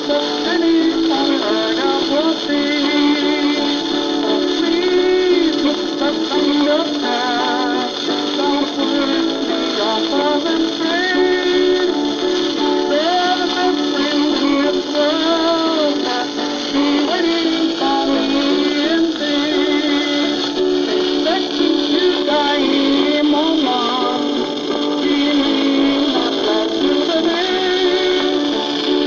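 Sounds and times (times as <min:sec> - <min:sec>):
instrumental accompaniment: 0:00.0 - 0:29.0
man singing with vibrato: 0:00.0 - 0:29.0.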